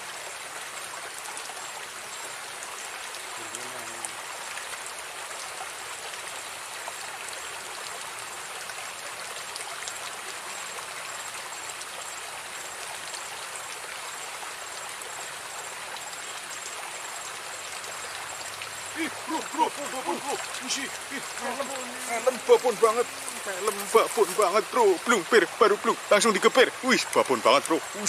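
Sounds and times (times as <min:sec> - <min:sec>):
water rushing along ditch: 0:00.0 - 0:28.0.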